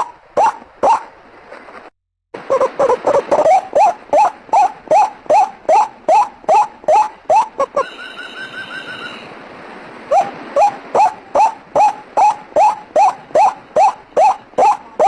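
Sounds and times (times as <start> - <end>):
waterhen calls: 0.0 - 1.1, 2.4 - 9.4, 10.0 - 15.0.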